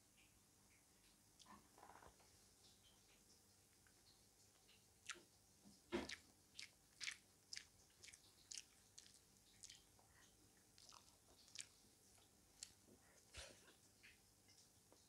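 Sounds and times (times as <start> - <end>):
chewing with wet clicks: 2.6 - 15.0.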